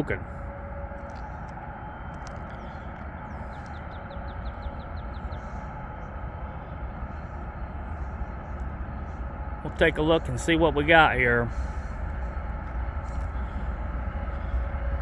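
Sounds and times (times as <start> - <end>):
train approaching with low rumble: 0.0 - 15.0.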